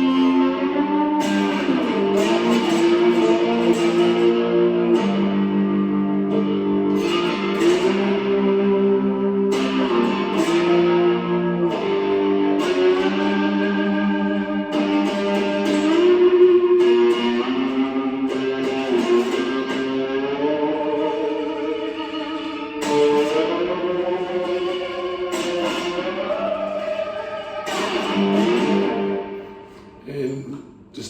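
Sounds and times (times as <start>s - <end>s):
slide guitar through amplifier: 0.0s - 30.7s.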